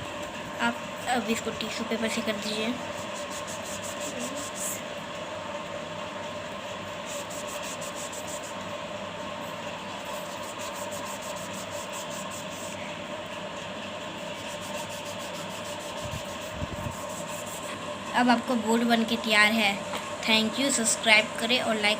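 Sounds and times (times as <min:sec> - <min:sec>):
mechanical hum: 0:00.0 - 0:21.9.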